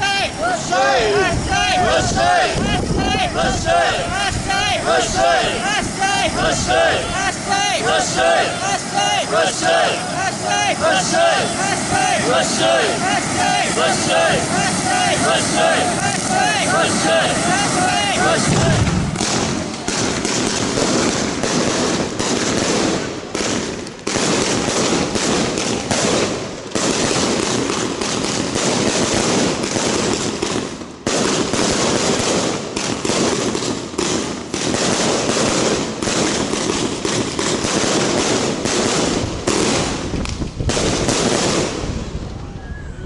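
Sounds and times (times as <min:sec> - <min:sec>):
fireworks sparks crackling: 0:00.0 - 0:42.4.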